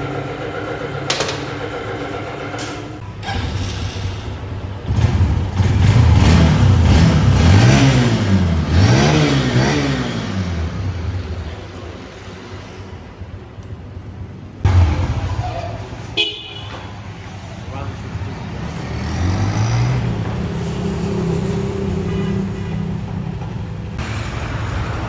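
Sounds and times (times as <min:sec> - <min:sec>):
motorcycle engine revving: 0:00.0 - 0:13.0, 0:14.6 - 0:25.0.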